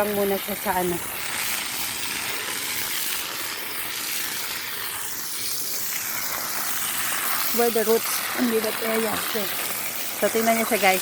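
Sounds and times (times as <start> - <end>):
hose water jetting onto soil: 0.0 - 11.0.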